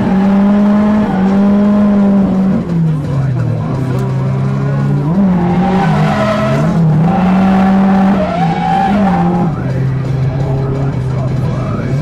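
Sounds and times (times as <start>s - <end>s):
car engine revving high: 0.0s - 12.0s
tyres skidding: 0.0s - 12.0s.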